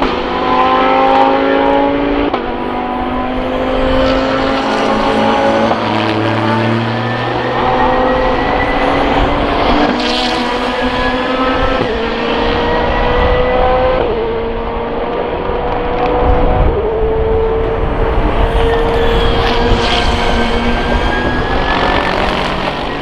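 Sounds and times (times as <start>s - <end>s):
racing cars accelerating: 0.0s - 23.0s.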